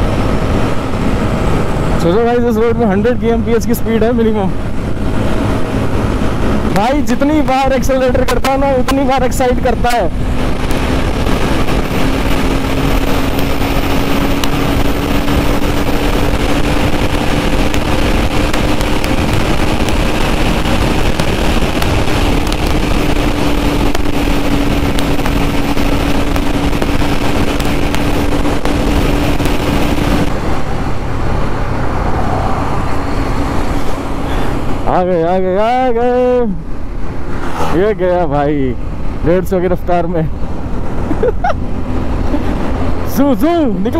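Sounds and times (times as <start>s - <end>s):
motorcycle engine: 0.0s - 43.2s
wind and road noise: 0.0s - 43.9s.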